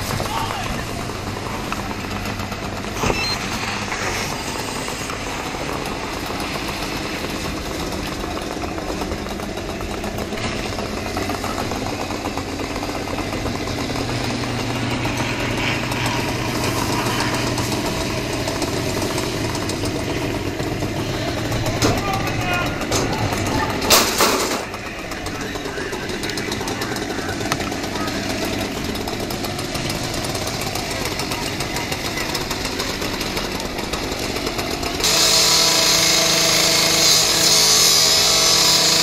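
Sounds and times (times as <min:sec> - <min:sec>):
engine droning: 0:00.0 - 0:39.0.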